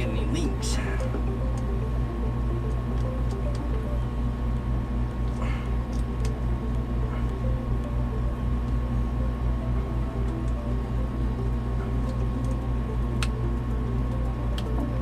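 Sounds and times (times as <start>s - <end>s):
low machinery drone: 0.0s - 15.0s.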